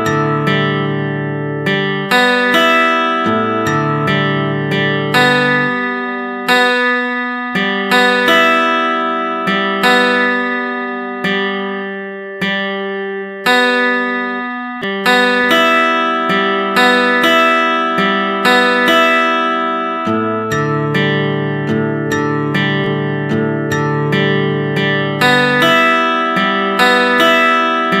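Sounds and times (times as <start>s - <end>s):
strummed plucked string chords: 0.0s - 28.0s.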